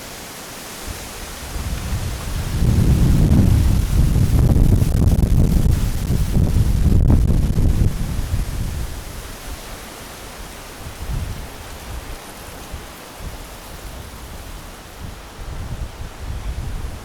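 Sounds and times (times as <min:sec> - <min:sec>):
light rain hissing: 0:00.0 - 0:17.0
wind rumbling on microphone: 0:00.8 - 0:17.0.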